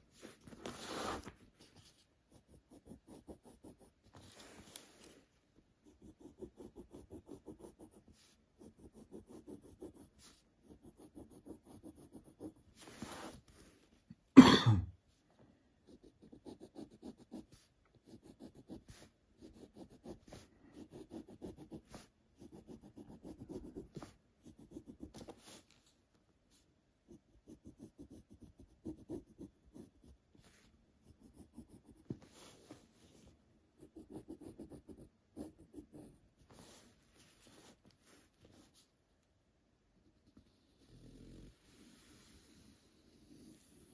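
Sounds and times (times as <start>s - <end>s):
pencil scratching on paper: 0.2s - 4.9s, 5.8s - 13.7s, 15.8s - 25.7s, 27.0s - 38.9s, 40.0s - 43.9s.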